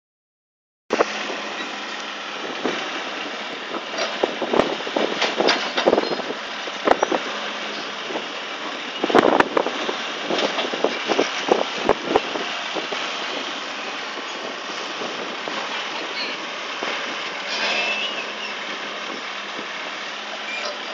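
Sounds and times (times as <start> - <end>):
diesel engines running: 0.9 - 20.9.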